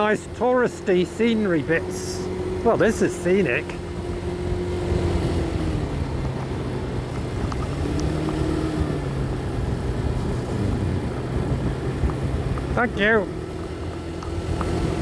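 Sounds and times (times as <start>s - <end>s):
low wind rumble: 0.0s - 15.0s
motorcycle engine running: 0.0s - 15.0s.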